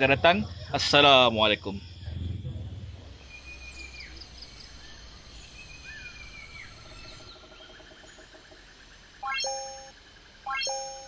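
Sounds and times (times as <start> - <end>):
insects and small animals calling: 0.0 - 11.0
low steady hum: 0.0 - 11.0.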